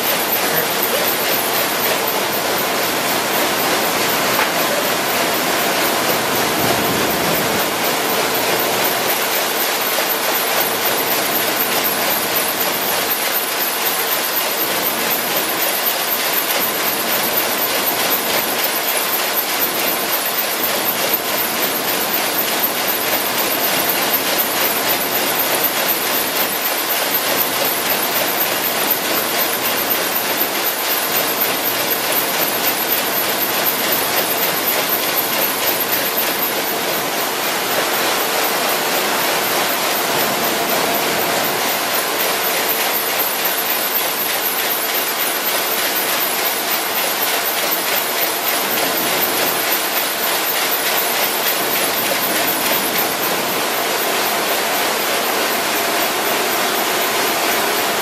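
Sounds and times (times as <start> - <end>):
printing press clattering: 0.0 - 58.0.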